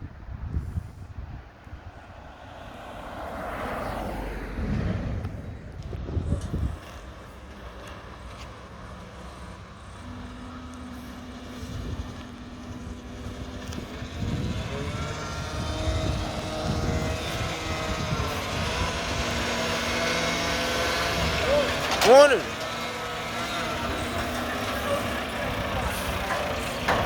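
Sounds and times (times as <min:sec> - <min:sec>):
garbage truck diesel engine: 0:02.0 - 0:27.0.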